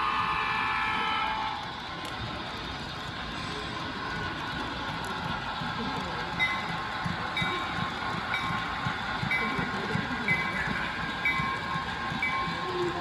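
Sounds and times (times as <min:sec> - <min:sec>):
model locomotive diesel engine: 0:00.0 - 0:13.0.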